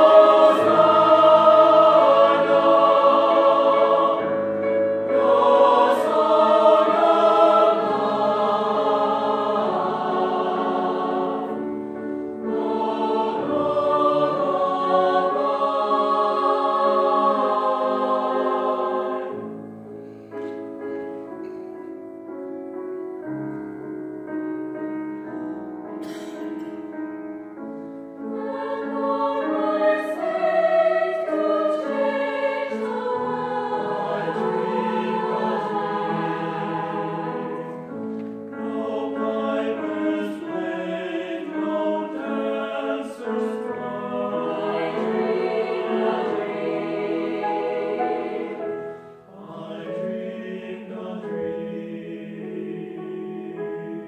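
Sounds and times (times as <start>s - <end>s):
mixed choir singing: 0.0s - 19.7s, 27.8s - 54.0s
piano accompaniment: 0.0s - 54.0s.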